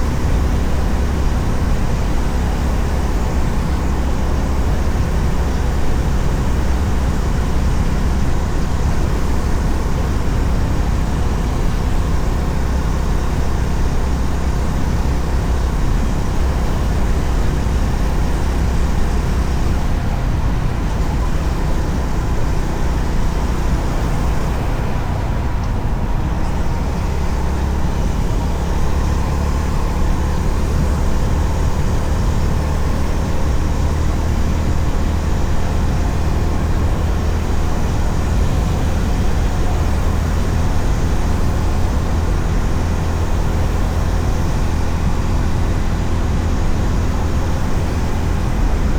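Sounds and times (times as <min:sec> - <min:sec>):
road noise: 0:00.0 - 0:48.9.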